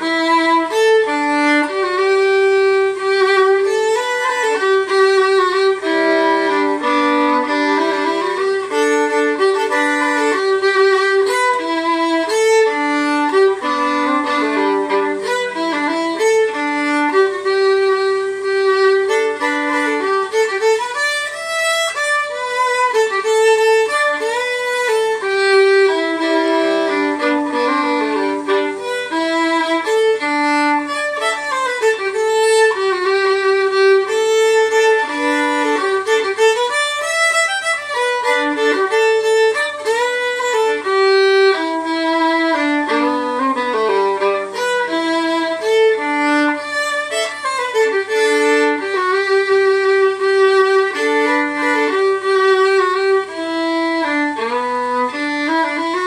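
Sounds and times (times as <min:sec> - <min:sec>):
fiddle tune: 0:00.0 - 0:56.0.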